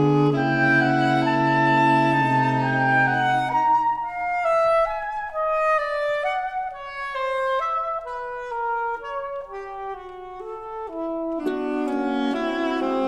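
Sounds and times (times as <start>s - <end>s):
saxophone quartet playing: 0.0s - 13.0s.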